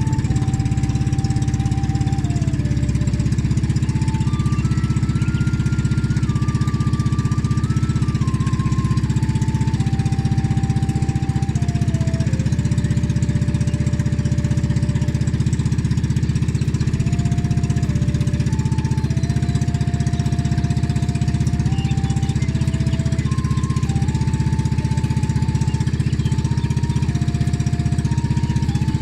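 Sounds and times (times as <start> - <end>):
boat engine chugging: 0.0 - 29.0
faint slow melody: 0.0 - 29.0.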